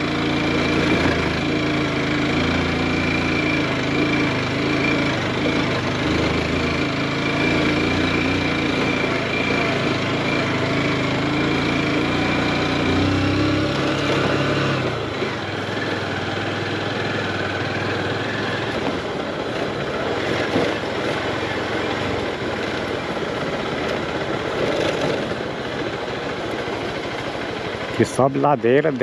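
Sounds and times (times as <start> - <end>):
small motorcycle engine: 0.0 - 29.0.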